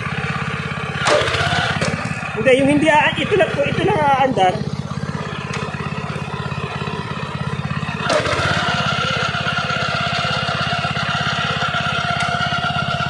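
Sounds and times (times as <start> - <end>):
steady mechanical whine: 0.0 - 13.0
tractor engine running: 0.0 - 13.0.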